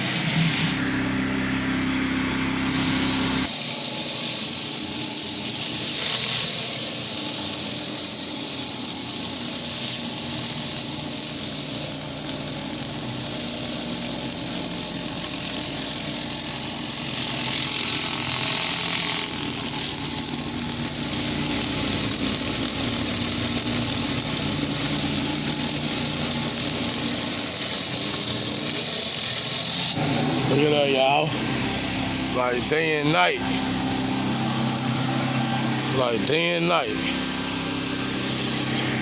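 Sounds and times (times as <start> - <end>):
pressure washer engine running: 0.0 - 39.0
water spray hissing on concrete: 2.6 - 39.0.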